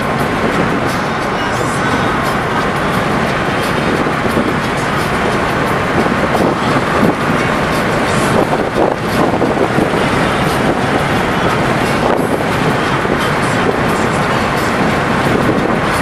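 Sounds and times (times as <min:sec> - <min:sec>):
car road noise from inside: 0:00.0 - 0:16.0.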